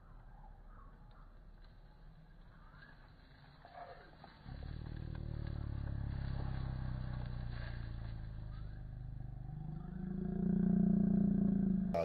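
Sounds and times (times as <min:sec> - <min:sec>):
low pulsing engine-like drone: 0:00.0 - 0:12.0.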